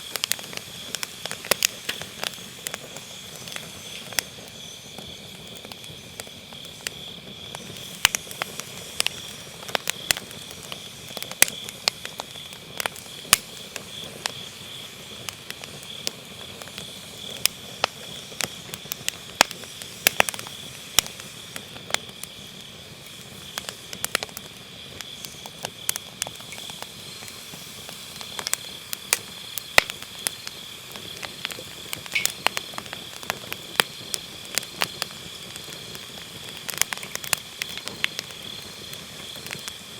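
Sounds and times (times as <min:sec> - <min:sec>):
firewood crackling: 0:00.0 - 0:39.9
insects trilling: 0:00.0 - 0:39.9.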